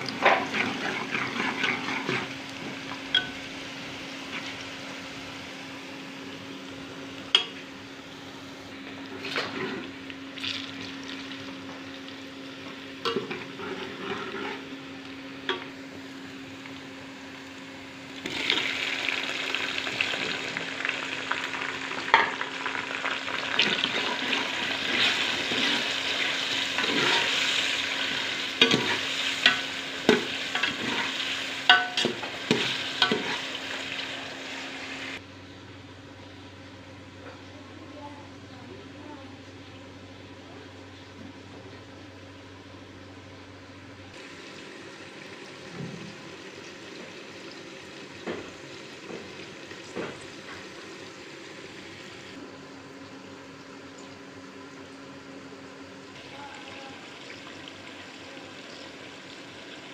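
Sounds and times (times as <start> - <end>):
onions sizzling in oil: 0.0 - 35.2, 44.1 - 59.9.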